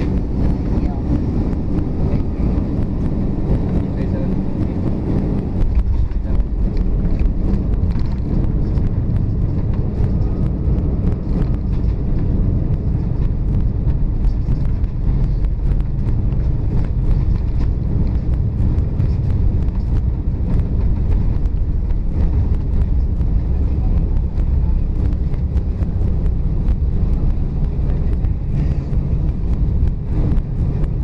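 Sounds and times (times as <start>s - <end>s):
jet engines and wheels rumbling: 0.0s - 31.0s.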